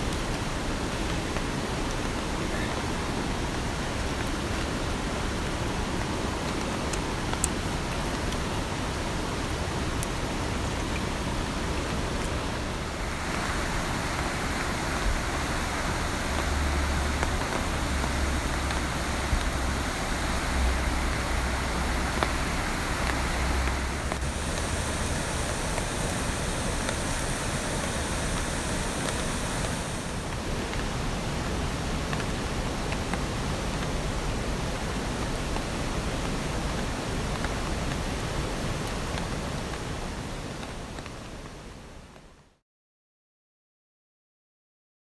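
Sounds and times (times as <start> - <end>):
water noise: 0.0 - 41.0.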